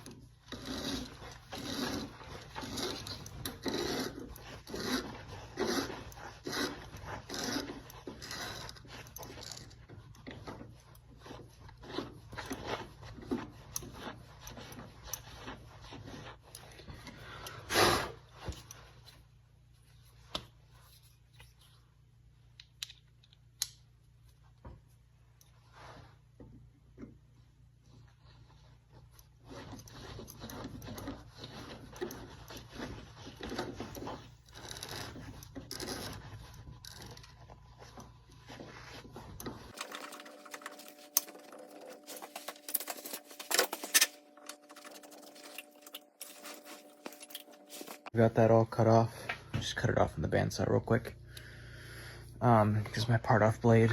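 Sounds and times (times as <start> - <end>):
scraping and rubbing: 0.0 - 22.0, 25.5 - 49.5.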